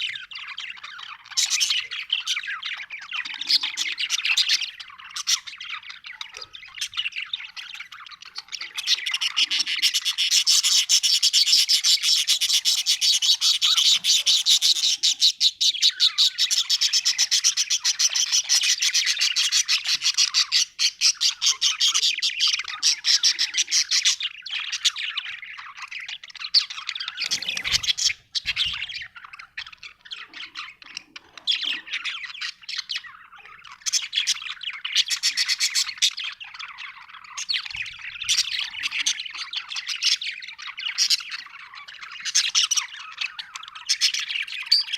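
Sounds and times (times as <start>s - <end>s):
budgerigar chirping and warbling: 0.0s - 44.9s.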